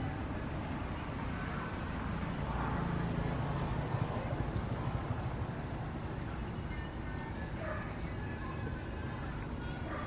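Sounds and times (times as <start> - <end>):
low outdoor background rumble: 0.0 - 10.0.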